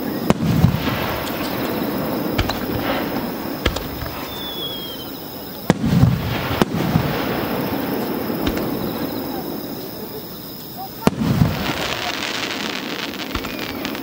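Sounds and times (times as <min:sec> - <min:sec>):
firework whistle: 0:00.0 - 0:09.9, 0:10.8 - 0:14.0
firework shells bursting: 0:00.3 - 0:10.1, 0:11.0 - 0:14.0.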